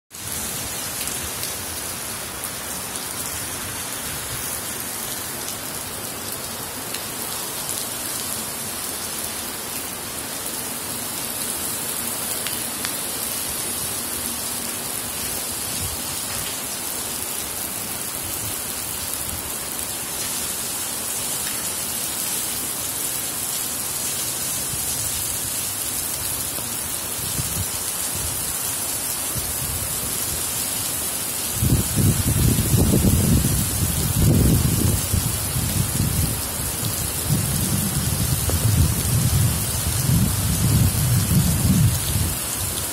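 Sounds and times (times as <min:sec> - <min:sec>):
rain on wet pavement: 0:00.1 - 0:42.9.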